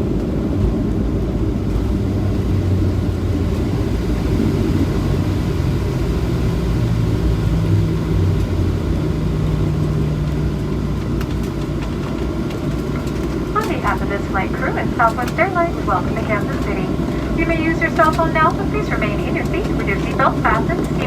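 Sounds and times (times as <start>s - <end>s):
jet engine cabin rumble: 0.0s - 21.0s
low hum: 0.0s - 21.0s.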